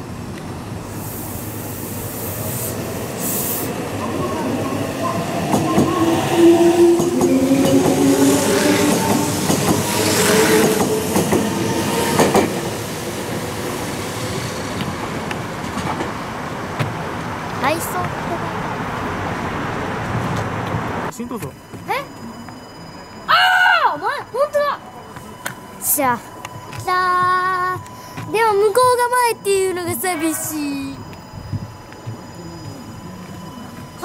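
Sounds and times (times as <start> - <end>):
electric train passing: 0.0 - 34.0.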